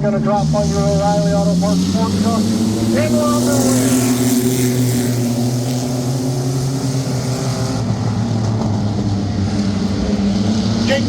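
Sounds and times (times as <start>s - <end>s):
racing truck engines droning: 0.0s - 11.0s.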